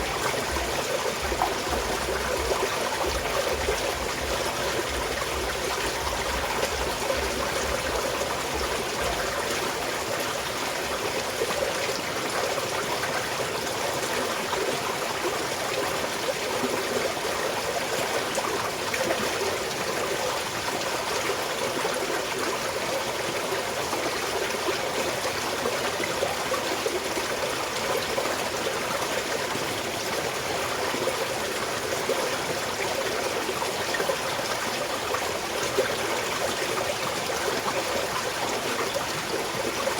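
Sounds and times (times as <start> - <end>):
mountain stream trickling: 0.0 - 39.9.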